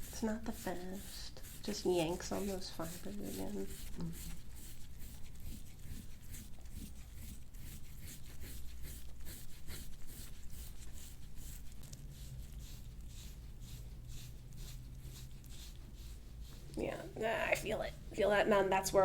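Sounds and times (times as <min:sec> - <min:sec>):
hands rubbing over skin: 0:00.0 - 0:19.0
low room hum: 0:00.0 - 0:19.0.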